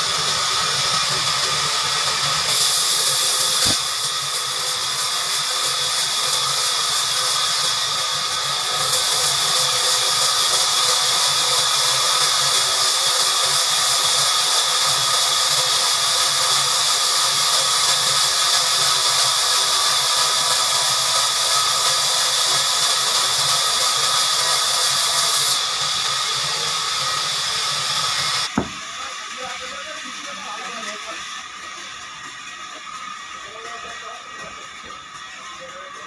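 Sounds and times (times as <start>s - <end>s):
band saw cutting log: 0.0s - 36.0s.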